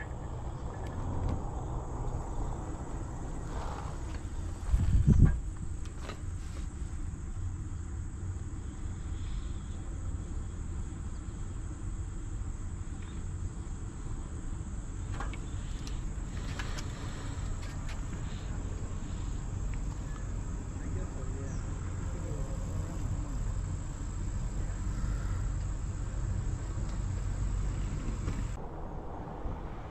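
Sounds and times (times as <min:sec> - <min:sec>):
insects trilling: 0:00.0 - 0:28.6
wind and tyre rumble: 0:00.0 - 0:29.9.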